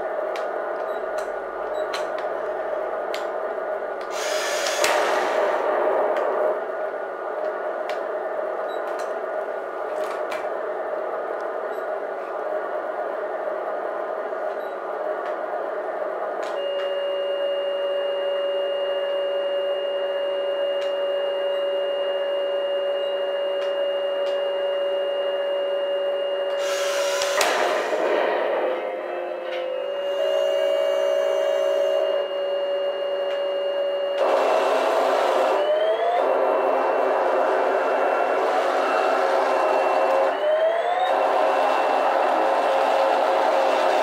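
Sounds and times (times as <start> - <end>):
noisy burst: 0.0 - 44.0.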